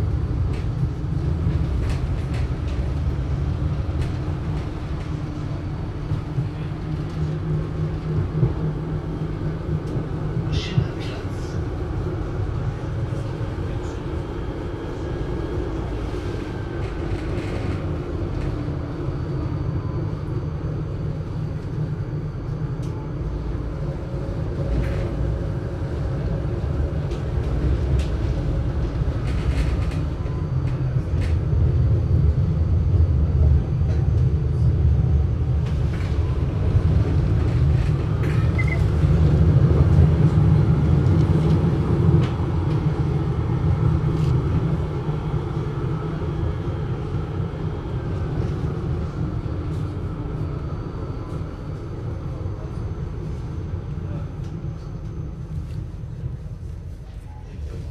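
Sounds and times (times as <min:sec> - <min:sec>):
tram equipment low rumble: 0:00.0 - 0:57.9.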